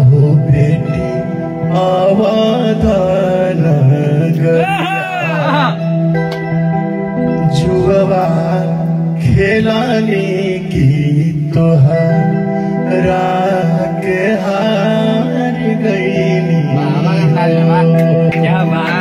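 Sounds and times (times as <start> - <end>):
person singing folk song: 0.0 - 5.9, 7.4 - 19.0
held instrumental notes: 0.0 - 19.0.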